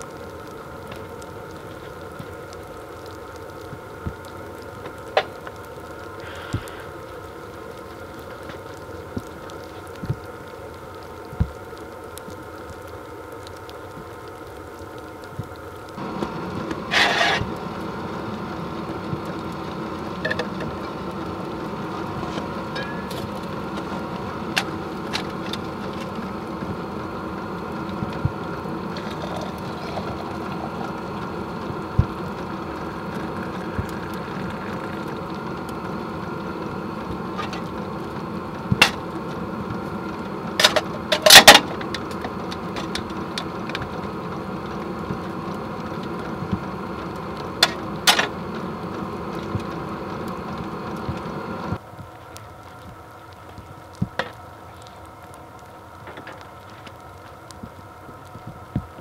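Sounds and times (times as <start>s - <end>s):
heater humming: 0.0s - 59.0s.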